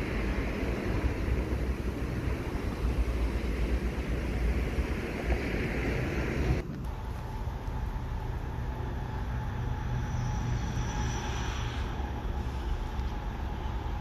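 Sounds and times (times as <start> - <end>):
freight train rolling past: 0.0 - 14.0
wind buffeting microphone: 0.0 - 14.0.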